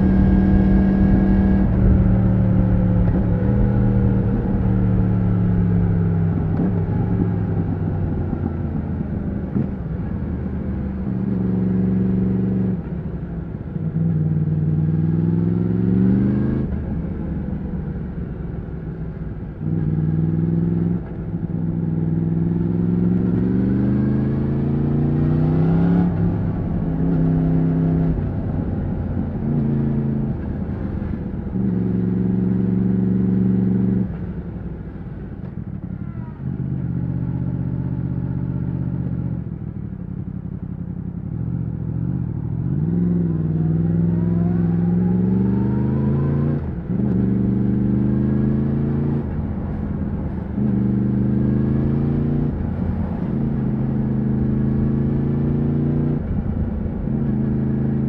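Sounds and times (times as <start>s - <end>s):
motorcycle engine accelerating through gears: 0.0s - 58.0s.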